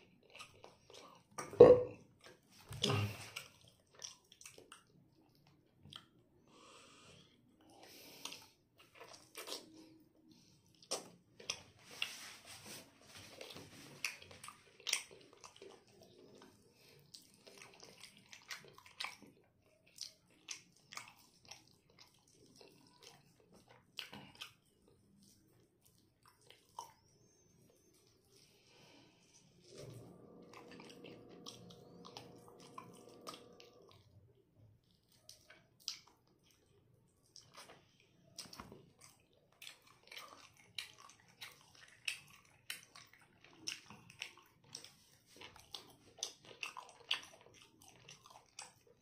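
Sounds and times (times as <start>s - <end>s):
man chewing with mouth clicks: 0.0s - 6.2s, 7.6s - 12.2s, 13.3s - 49.0s.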